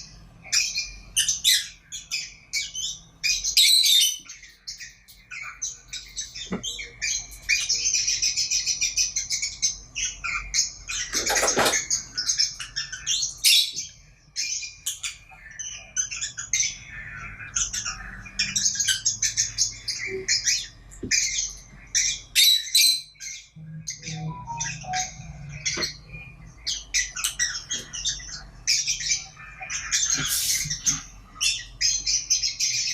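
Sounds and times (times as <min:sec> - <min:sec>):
lovebirds chirping and squawking: 0:00.0 - 0:32.9.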